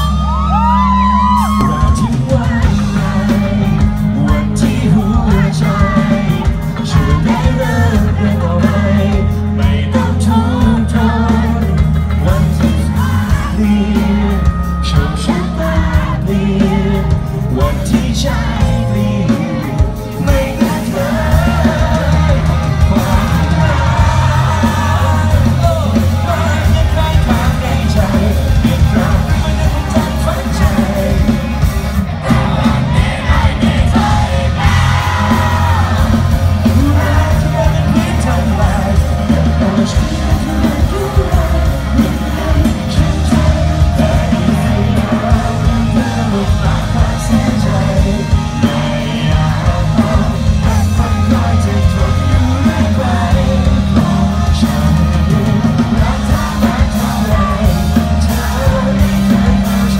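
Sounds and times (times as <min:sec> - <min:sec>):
amplified band music with heavy bass: 0:00.0 - 0:59.9
man singing into a microphone: 0:00.0 - 0:59.9.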